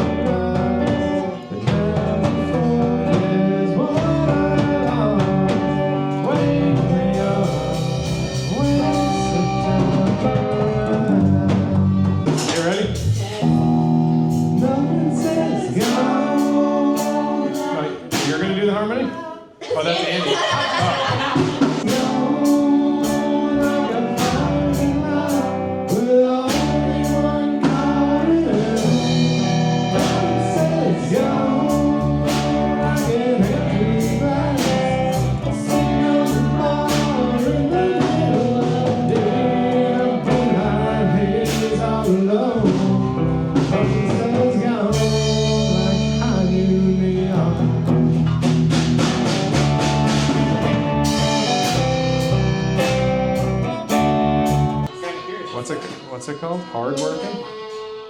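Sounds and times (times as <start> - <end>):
steady drum beat: 0.0 - 18.7, 20.3 - 54.9
person singing: 0.0 - 19.6, 20.2 - 58.0
guitar: 0.0 - 58.0.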